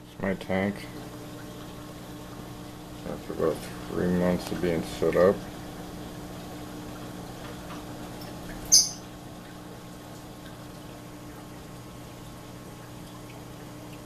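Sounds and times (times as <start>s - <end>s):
aquarium equipment humming: 0.0s - 14.0s.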